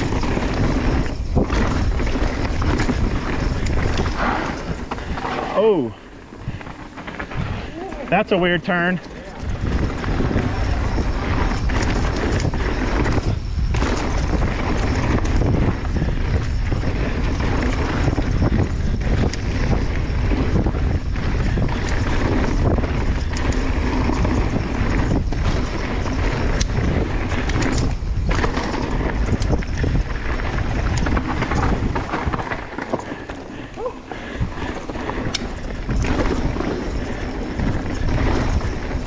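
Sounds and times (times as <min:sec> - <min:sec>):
bike rattling over rocks: 0:00.0 - 0:39.0
wind rushing over microphone: 0:00.0 - 0:39.0.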